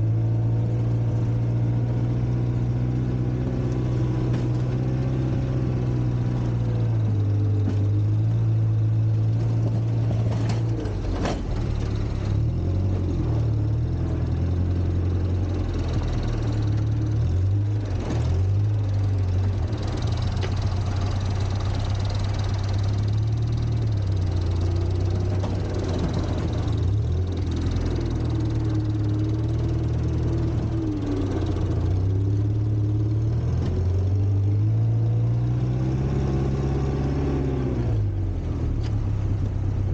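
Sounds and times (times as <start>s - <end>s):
tractor engine revving: 1.8s - 39.9s.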